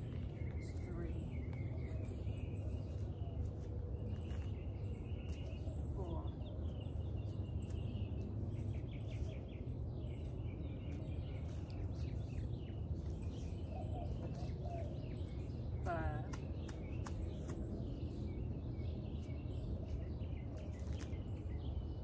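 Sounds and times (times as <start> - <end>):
small birds chirping and trilling: 0.0 - 22.0.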